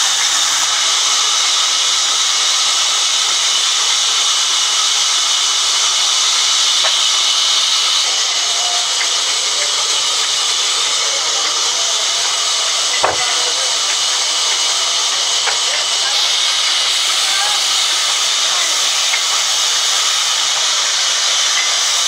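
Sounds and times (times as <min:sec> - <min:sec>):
band saw cutting wood: 0:00.0 - 0:22.0.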